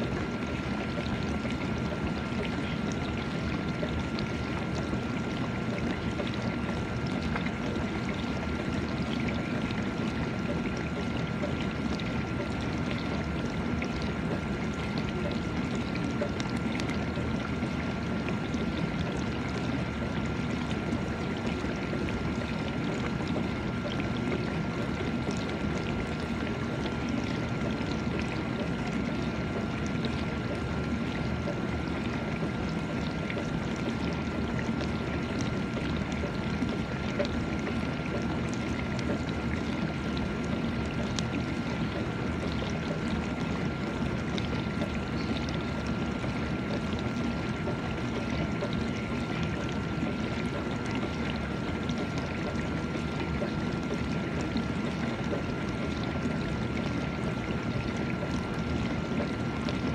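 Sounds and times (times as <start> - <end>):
thin steady whine: 0.0 - 59.9
wash pump hum: 0.0 - 59.9
water spraying and sloshing: 0.0 - 59.9.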